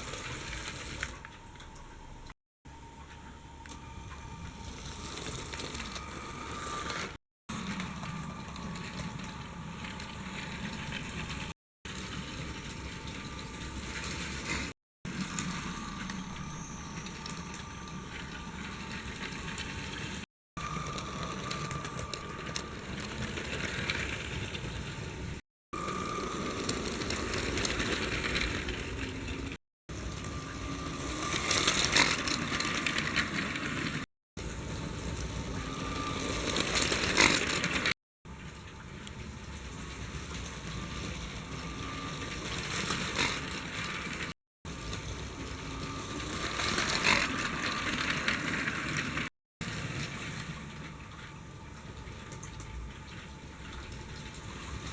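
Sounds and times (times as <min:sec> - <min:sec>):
toy train motor running: 0:00.0 - 0:01.3, 0:03.6 - 0:38.0, 0:39.7 - 0:50.6
plastic wheels rattling on track: 0:00.0 - 0:01.4, 0:04.0 - 0:38.0, 0:38.8 - 0:51.3.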